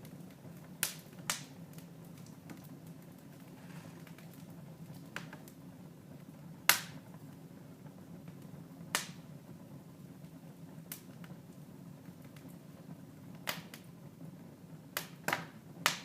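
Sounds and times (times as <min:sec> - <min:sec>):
sharp fire pops: 0:00.0 - 0:05.6, 0:06.6 - 0:09.5, 0:10.7 - 0:14.0, 0:14.9 - 0:16.0
wood fire crackling: 0:00.0 - 0:16.0.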